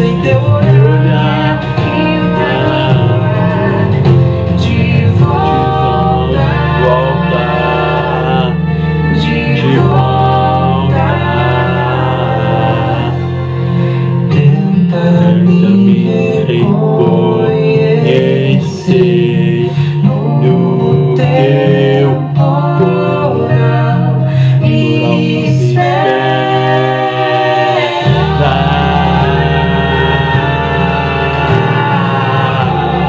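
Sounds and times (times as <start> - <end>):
bass and sustained chords: 0.0 - 33.0.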